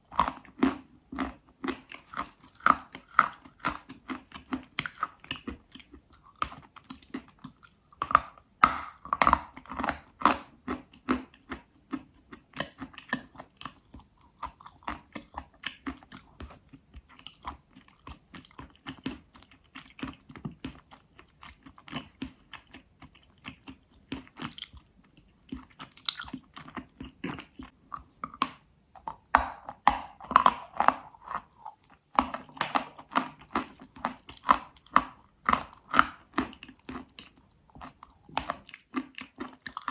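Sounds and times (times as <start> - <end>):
chalk being chewed with crunches: 0.0 - 39.9.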